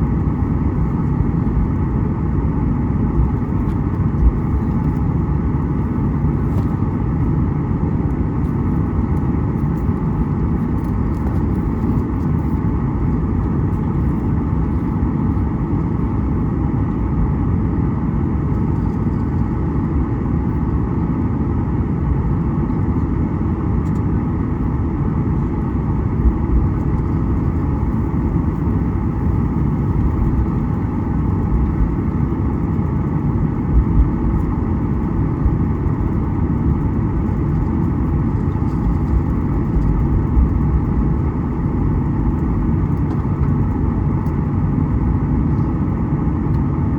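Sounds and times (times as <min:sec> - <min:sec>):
airplane cabin engine rumble: 0:00.0 - 0:46.9.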